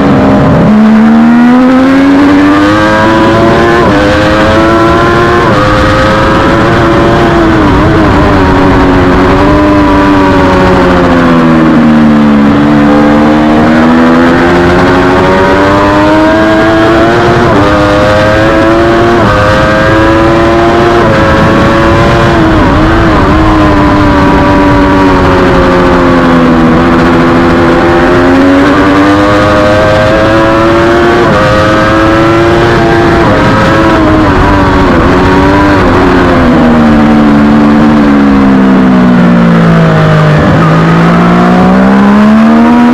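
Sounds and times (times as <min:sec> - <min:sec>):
motorcycle engine at racing speed: 0:00.0 - 0:42.9
wind rush: 0:00.0 - 0:42.9.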